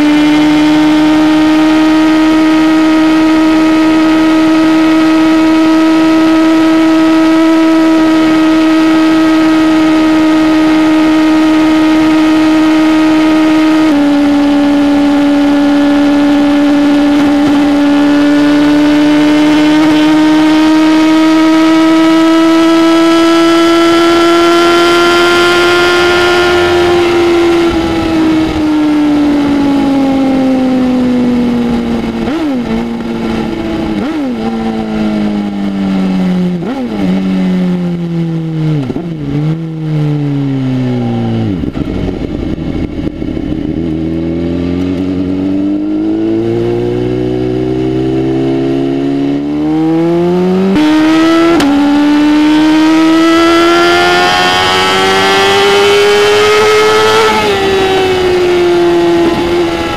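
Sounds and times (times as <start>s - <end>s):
motorcycle engine revving: 0.0s - 59.9s
gear change: 0.3s - 59.9s.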